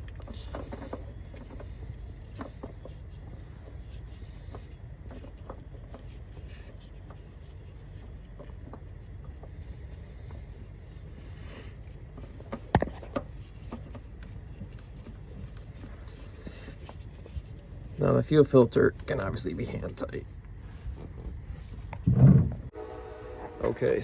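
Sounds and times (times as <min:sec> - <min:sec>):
filter scraping and clicking: 0:00.0 - 0:22.5.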